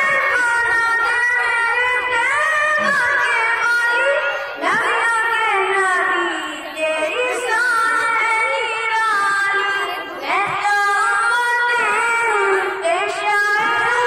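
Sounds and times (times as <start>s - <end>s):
young man singing over loudspeakers: 0.0s - 14.0s.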